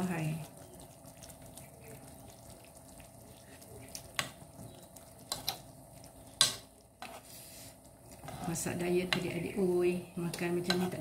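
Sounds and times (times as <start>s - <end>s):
stew simmering in a pot: 0.0s - 11.0s.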